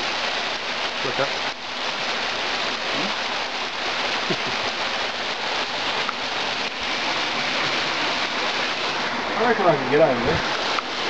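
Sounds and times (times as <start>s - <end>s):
water splashing into pool: 0.0s - 9.4s
small waterfall rushing: 0.0s - 11.0s.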